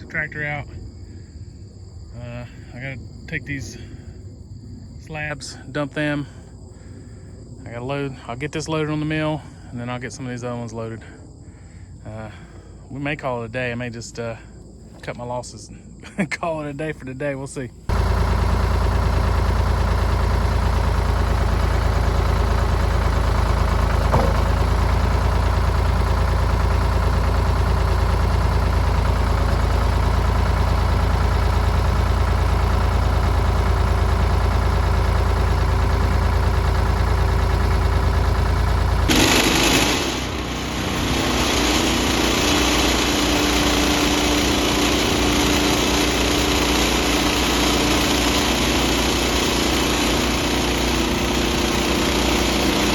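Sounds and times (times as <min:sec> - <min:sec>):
tractor engine rumbling: 0:00.0 - 0:52.9.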